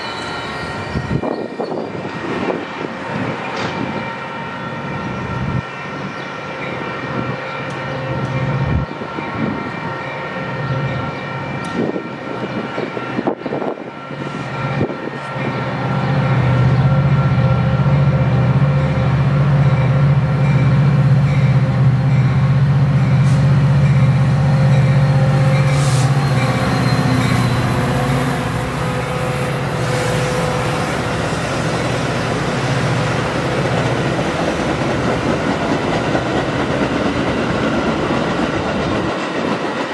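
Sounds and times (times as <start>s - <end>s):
diesel locomotive engine rumble: 0.0s - 39.9s
train cars rolling on rails: 0.0s - 39.9s.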